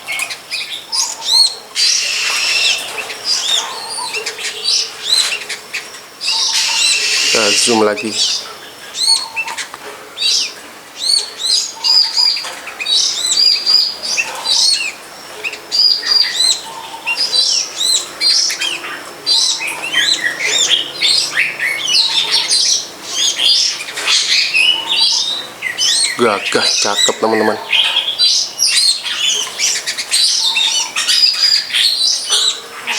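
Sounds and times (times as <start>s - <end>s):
bird twittering song: 0.0s - 32.9s.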